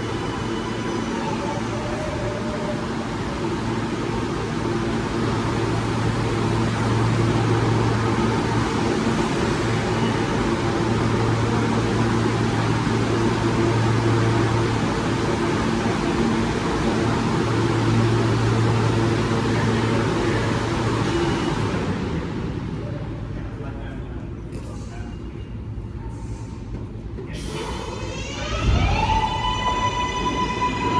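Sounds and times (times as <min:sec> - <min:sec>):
low machinery hum: 0:00.0 - 0:30.9
subway train rumbling and whining: 0:00.0 - 0:30.9.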